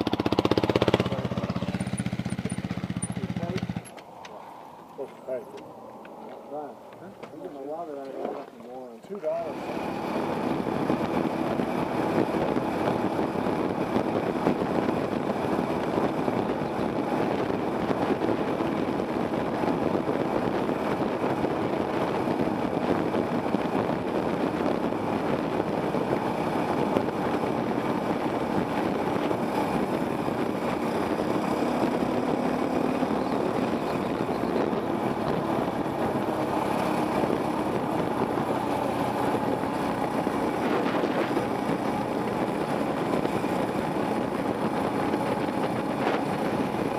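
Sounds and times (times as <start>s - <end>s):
dirt bike engine running: 0.0s - 4.1s, 9.5s - 46.9s.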